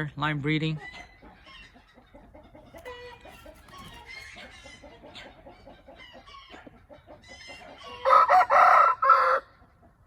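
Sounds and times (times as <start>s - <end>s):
chickens clucking: 0.3s - 10.0s.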